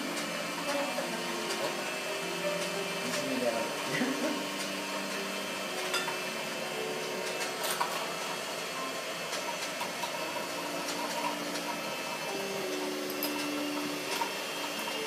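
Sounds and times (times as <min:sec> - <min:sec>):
massager motor humming: 0:00.0 - 0:15.0.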